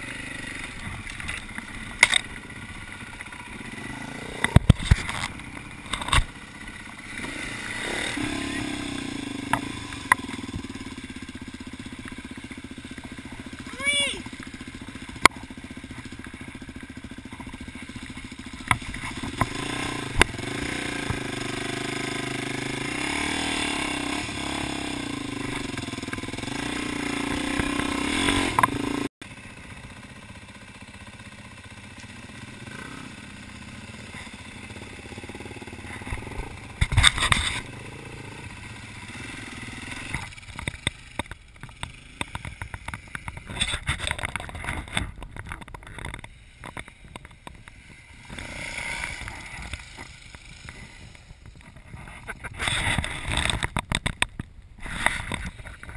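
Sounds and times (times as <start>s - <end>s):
dirt bike engine revving: 0.0s - 45.1s, 45.9s - 53.7s.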